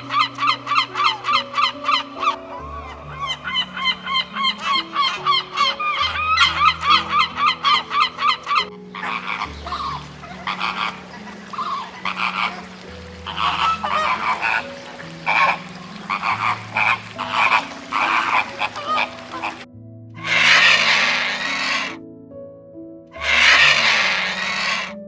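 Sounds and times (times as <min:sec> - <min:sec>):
geese honking: 0:00.0 - 0:19.6, 0:20.2 - 0:22.0, 0:23.2 - 0:25.0
soft background music: 0:00.0 - 0:25.0.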